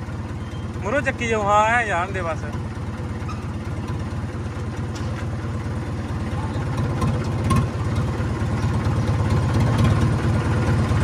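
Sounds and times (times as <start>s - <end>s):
tractor diesel engine throbbing: 0.0s - 11.0s.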